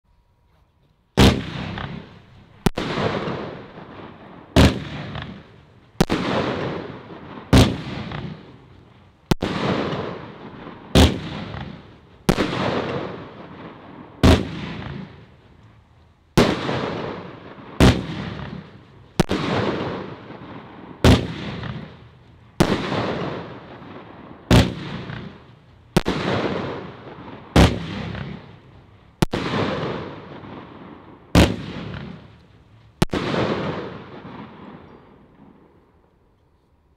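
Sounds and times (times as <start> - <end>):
firework shots thumping and hissing: 1.2 - 15.8, 16.4 - 34.7.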